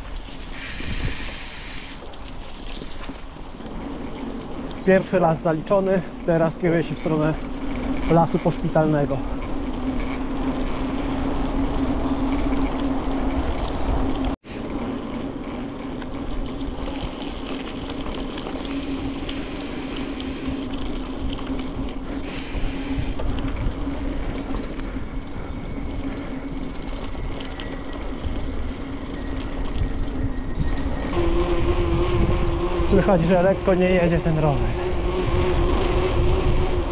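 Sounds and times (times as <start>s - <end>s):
wind rumbling on microphone: 0.0s - 5.5s, 6.1s - 36.9s
bicycle tyres rolling on road: 0.0s - 36.9s.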